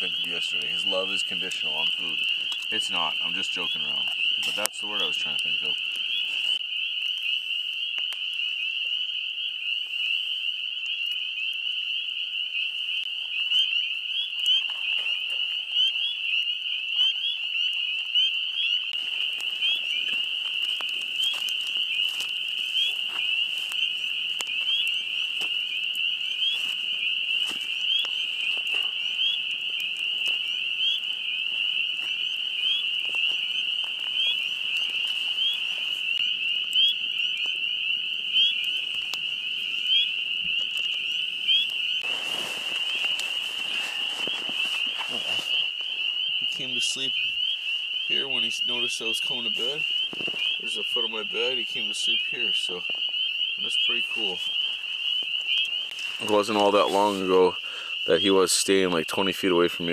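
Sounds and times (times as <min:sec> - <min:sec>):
campfire crackling and popping: 0:00.0 - 0:59.9
frogs peeping in chorus: 0:00.0 - 0:59.9.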